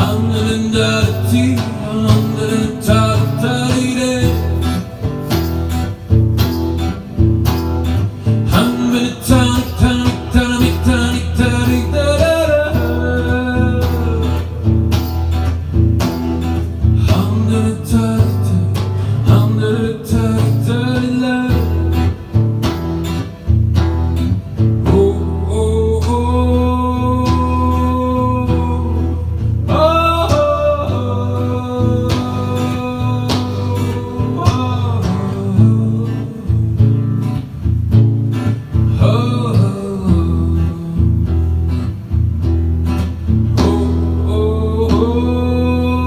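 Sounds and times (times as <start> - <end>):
guitar melody: 0.0 - 46.0
steady bass: 0.0 - 46.0.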